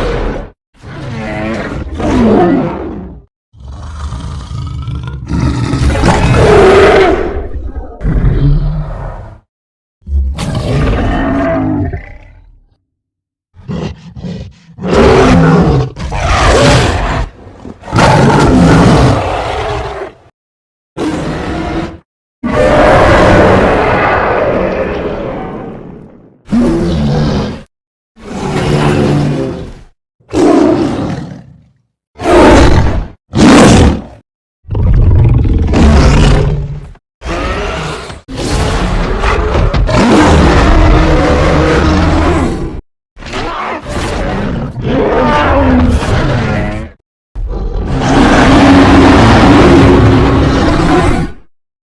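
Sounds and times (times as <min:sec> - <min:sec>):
giant gorilla roaring: 0:00.0 - 0:09.4, 0:10.0 - 0:12.8, 0:13.6 - 0:20.3, 0:21.0 - 0:31.6, 0:32.2 - 0:42.8, 0:43.4 - 0:51.5.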